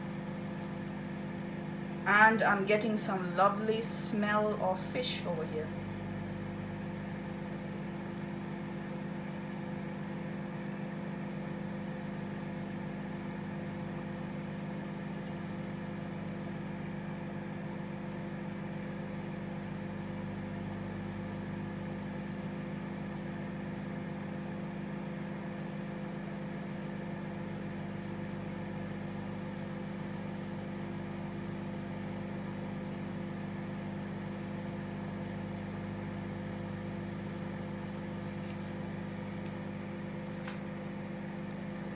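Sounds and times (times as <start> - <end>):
microwave oven humming: 0.0 - 41.9.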